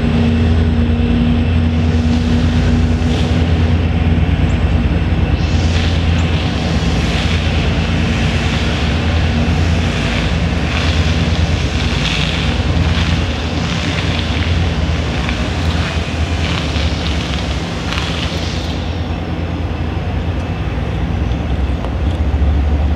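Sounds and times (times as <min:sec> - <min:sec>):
diesel locomotive engine drone: 0:00.0 - 0:22.9.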